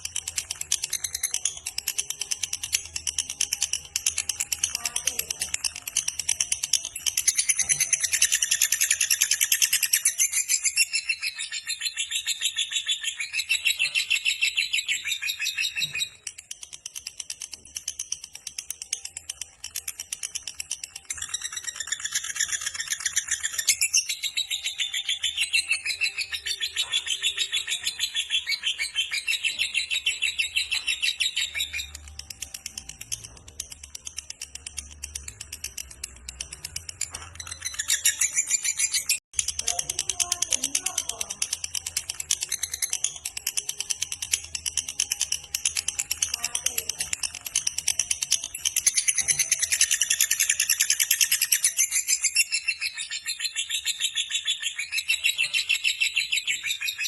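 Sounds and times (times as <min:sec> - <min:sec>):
bird chirps: 0:00.0 - 0:57.0
lovebird chattering song: 0:00.0 - 0:57.0.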